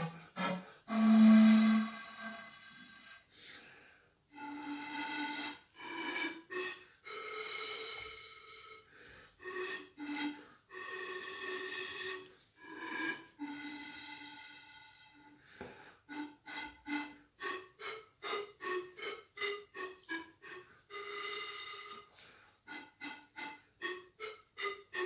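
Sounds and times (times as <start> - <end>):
pan flute melody: 0.0 - 3.5, 4.3 - 25.0.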